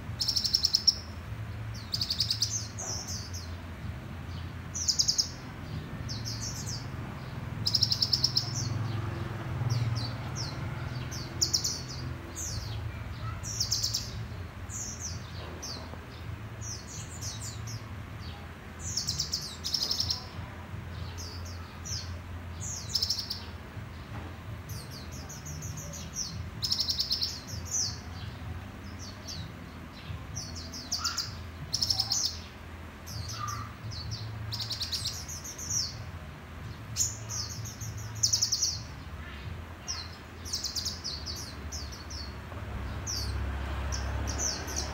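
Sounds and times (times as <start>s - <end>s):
birds trilling chirps: 0.0s - 44.9s.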